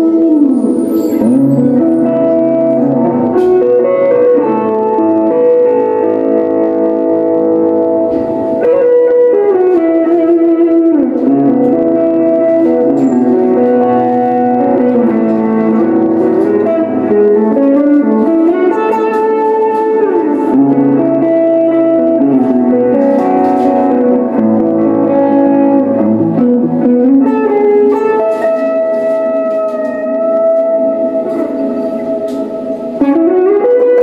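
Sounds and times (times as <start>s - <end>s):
electric guitar with effects: 0.0s - 34.0s.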